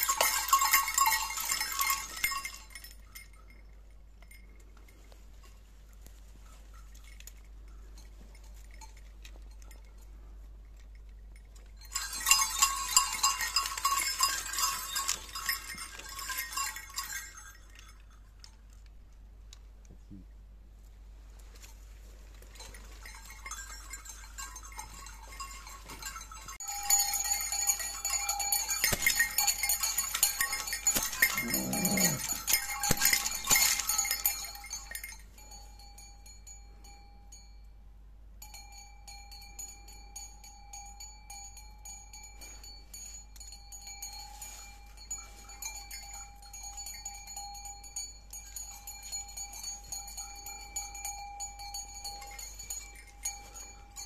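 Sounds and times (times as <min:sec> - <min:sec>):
costume bells ringing and rattling: 0:00.0 - 0:18.8, 0:21.6 - 0:54.0.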